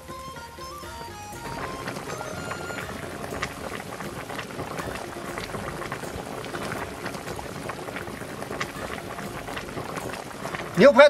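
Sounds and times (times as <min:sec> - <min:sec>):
liquid boiling and popping: 0:00.4 - 0:11.0.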